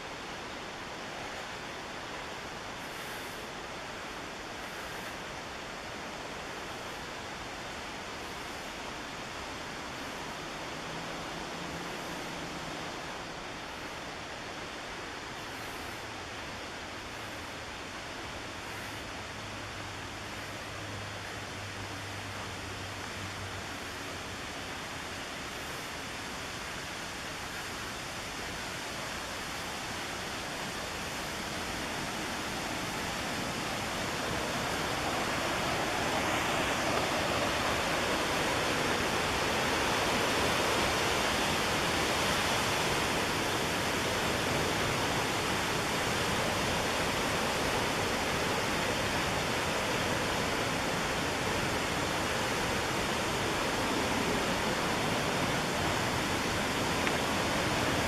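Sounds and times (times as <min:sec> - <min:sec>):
rushing whitewater roar: 0:00.0 - 0:58.0.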